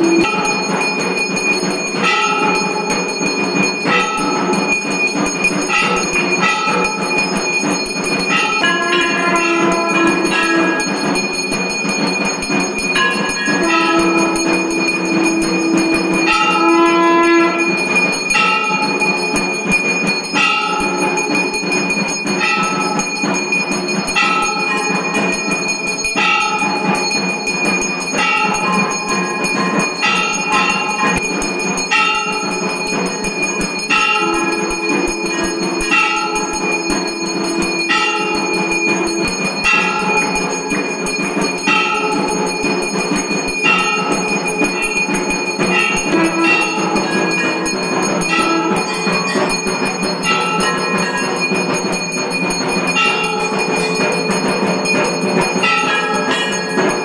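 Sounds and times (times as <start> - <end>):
low held tone: 0.0 - 26.0, 32.4 - 57.0
temple bells ringing: 0.0 - 57.0.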